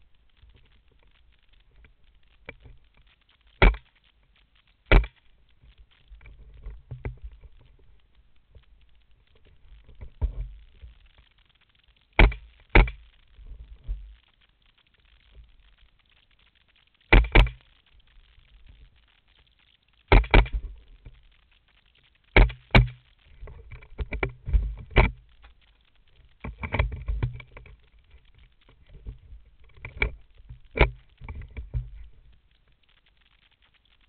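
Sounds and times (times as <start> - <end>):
rustle of movement: 0.0 - 34.0.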